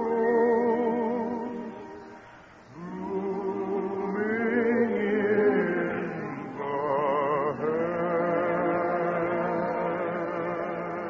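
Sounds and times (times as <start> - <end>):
operetta singing on old radio: 0.0 - 11.0.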